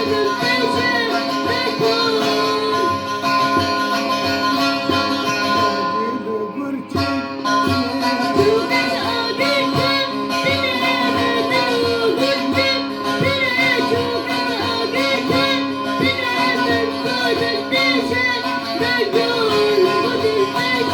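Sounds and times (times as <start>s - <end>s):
person singing ornamented melody: 0.0s - 3.5s, 5.3s - 20.9s.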